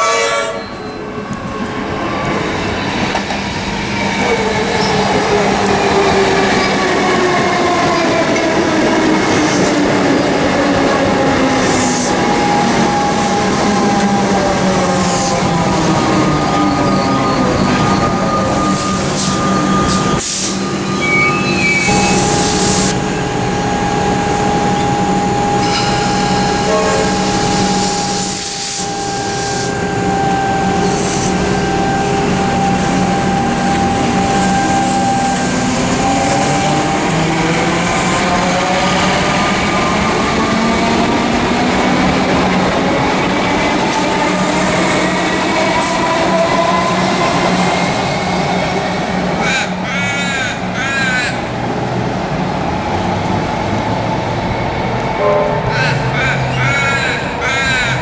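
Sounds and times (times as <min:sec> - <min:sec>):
train whining tones: 0:00.0 - 0:58.0
train wheels rumbling on rails: 0:00.6 - 0:58.0.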